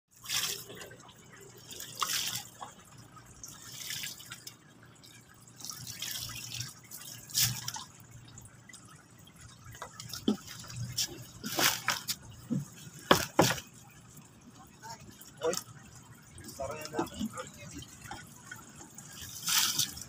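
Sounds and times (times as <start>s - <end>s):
plastic bowl scooping water: 0.1s - 13.8s, 16.8s - 20.0s
water splashing and dripping: 0.1s - 20.0s.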